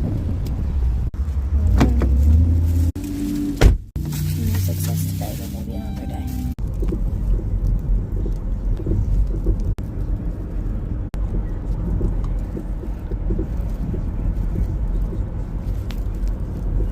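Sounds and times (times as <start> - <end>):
road rumble inside car: 0.0 - 16.9.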